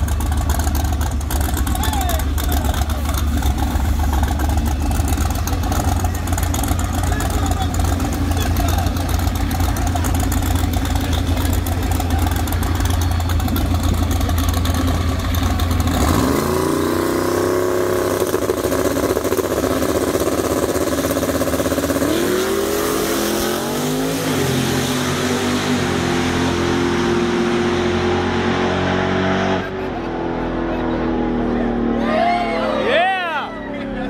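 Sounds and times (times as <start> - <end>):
drag racing car engines: 0.0 - 34.0.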